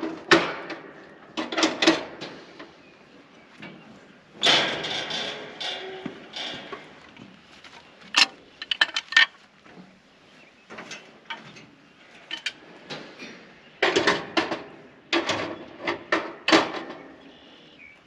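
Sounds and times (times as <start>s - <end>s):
metal clanks and knocks: 0.0s - 2.8s, 3.6s - 9.9s, 10.7s - 17.2s.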